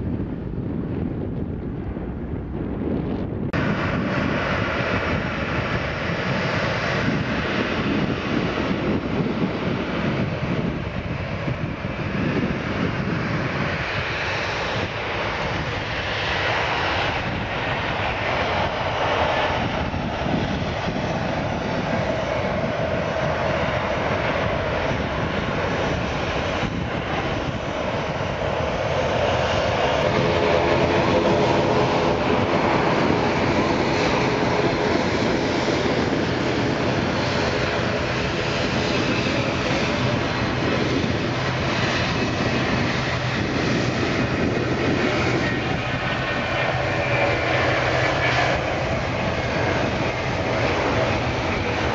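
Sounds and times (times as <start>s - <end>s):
jet engines rushing: 0.0s - 51.9s.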